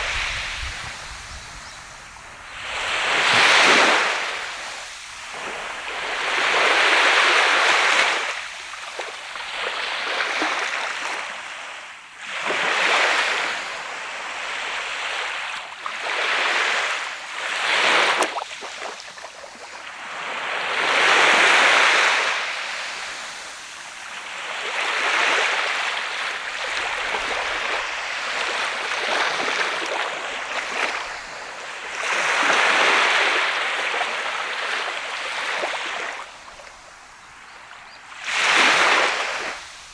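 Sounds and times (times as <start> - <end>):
waves breaking on sand beach: 0.0 - 39.9.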